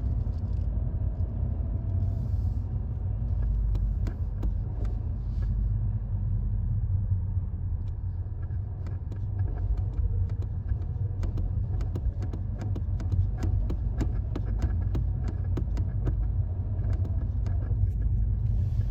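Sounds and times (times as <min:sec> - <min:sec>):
car engine low rumble: 0:00.0 - 0:18.9.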